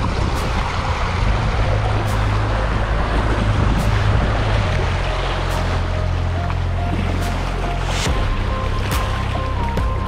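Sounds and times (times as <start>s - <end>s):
waves washing against rocks: 0.0s - 9.8s
faint music with slow beat: 0.0s - 10.0s
wind rumbling on microphone: 0.0s - 10.0s.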